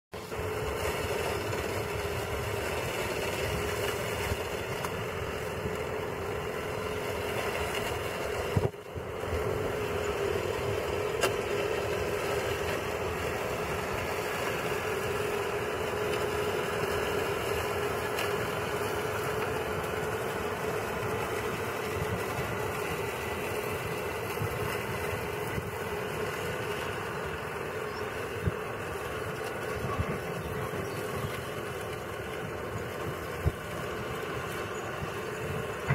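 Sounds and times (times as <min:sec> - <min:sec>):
lawn mower engine running: 0:00.1 - 0:35.9.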